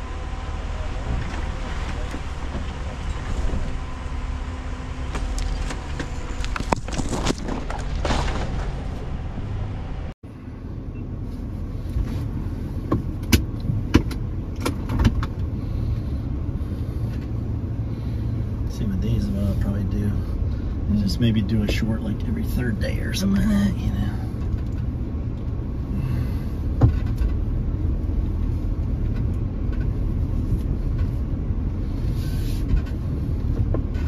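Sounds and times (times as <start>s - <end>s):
knocks and rattles in vehicle: 0.0s - 10.2s, 11.8s - 34.0s
road and wind noise: 0.0s - 34.0s
suv engine low rumble: 0.0s - 34.0s.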